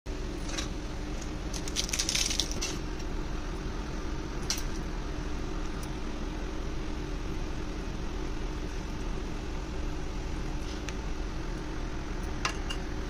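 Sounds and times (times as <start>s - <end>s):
steady background hum: 0.1s - 13.0s.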